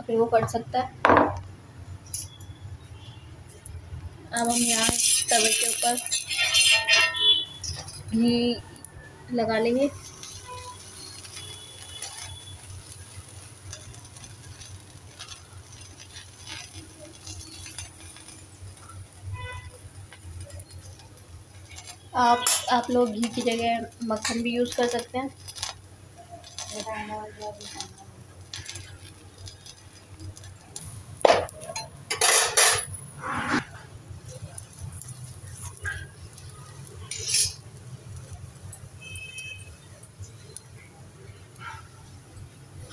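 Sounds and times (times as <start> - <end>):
faint sizzle on a griddle: 2.1 - 42.9
scattered crackles: 2.1 - 42.9.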